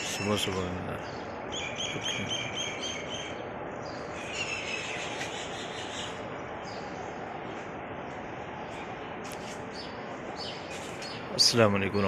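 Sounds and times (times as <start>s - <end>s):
small birds chirping: 0.0s - 7.7s, 8.5s - 12.0s
outdoor background hiss: 0.0s - 12.0s.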